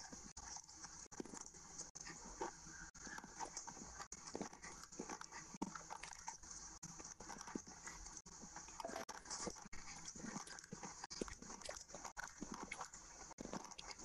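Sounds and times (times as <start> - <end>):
chewing and mouth smacking: 0.2 - 14.0.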